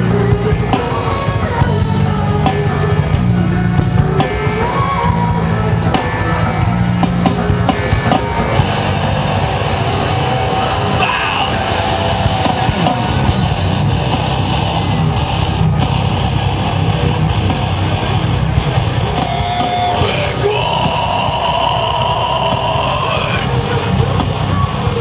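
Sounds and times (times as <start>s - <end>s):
heavy rock music: 0.0s - 25.0s.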